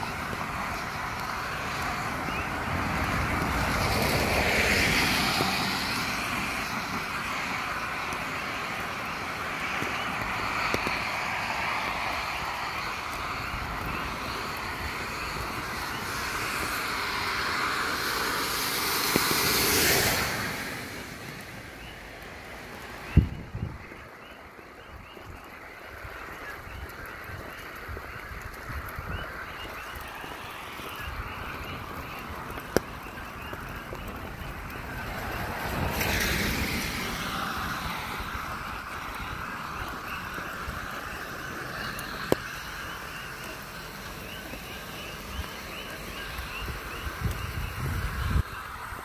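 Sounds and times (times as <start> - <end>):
vehicle swishing past on wet road: 0.0 - 23.8, 28.6 - 49.0
frogs chirping: 4.9 - 18.4, 22.9 - 49.0.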